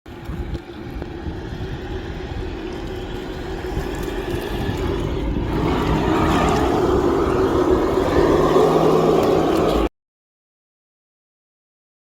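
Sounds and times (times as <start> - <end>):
toy truck motor and gears whirring: 0.2 - 9.9.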